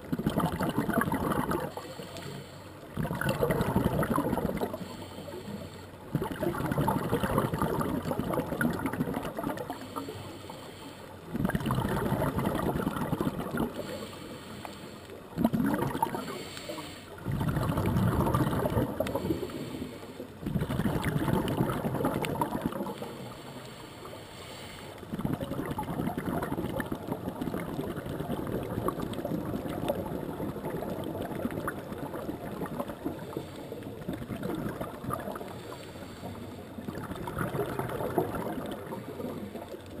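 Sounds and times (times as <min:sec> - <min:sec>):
underwater regulator bubbling: 0:00.0 - 0:23.8, 0:25.0 - 0:40.0.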